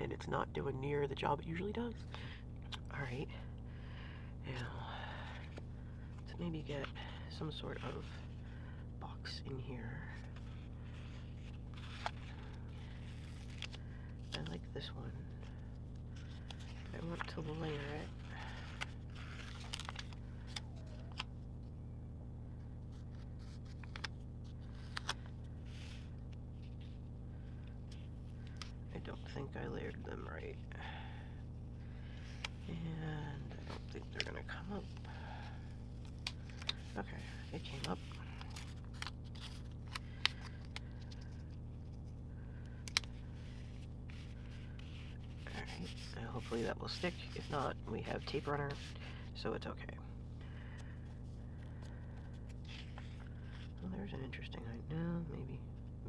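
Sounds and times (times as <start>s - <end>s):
steady low hum: 0.0s - 56.0s
soft paper rustle: 4.5s - 21.3s, 22.5s - 49.4s, 50.5s - 53.9s.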